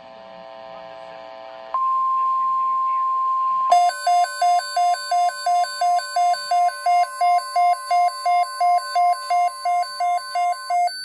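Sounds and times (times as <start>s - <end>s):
alarm beeping rapidly: 1.8s - 11.0s
steady alarm tone: 1.8s - 11.0s.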